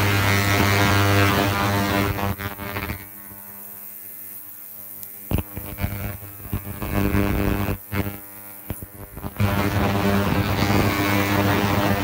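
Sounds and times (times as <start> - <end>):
ultrasonic cleaner buzzing hum: 0.0 - 12.0.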